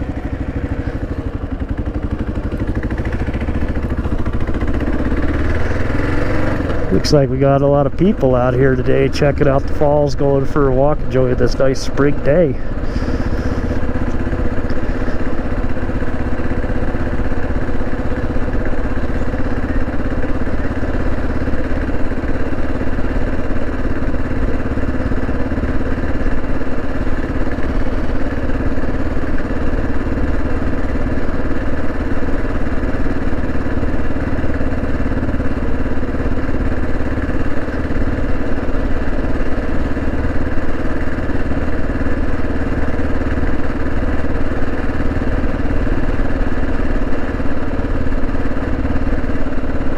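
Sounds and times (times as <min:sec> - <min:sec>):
motorcycle engine running steadily: 0:00.0 - 0:49.9.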